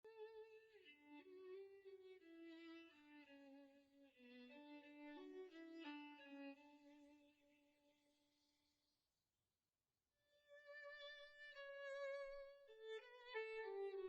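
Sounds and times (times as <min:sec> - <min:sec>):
solo violin melody: 0:00.0 - 0:08.1, 0:10.3 - 0:14.0.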